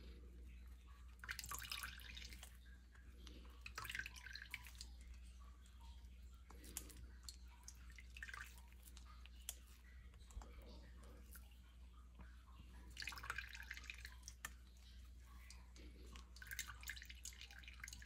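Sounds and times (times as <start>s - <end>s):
juice dripping into a bowl: 0.0s - 18.0s.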